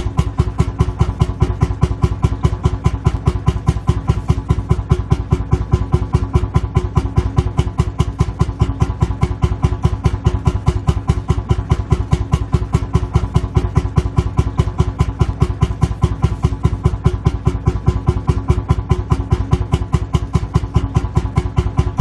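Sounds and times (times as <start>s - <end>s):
tractor engine idling thump: 0.0s - 22.0s.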